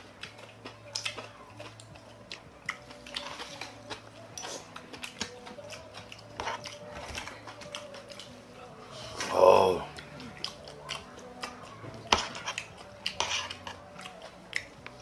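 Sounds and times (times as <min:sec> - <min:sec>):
eating sounds: 0:00.0 - 0:15.0.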